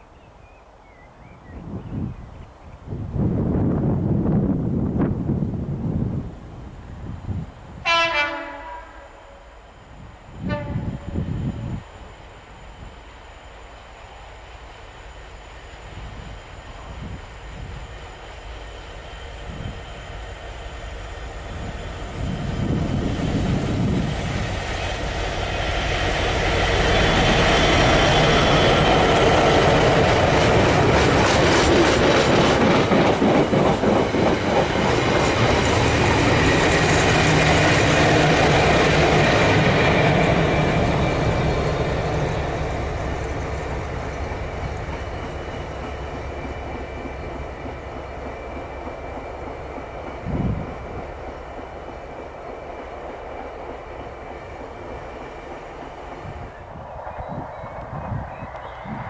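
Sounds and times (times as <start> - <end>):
diesel locomotive engine: 0.7 - 59.0.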